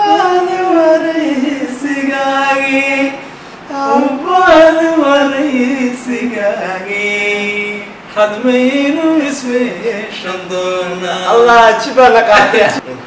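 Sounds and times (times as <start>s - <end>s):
man singing unaccompanied: 0.0s - 12.8s.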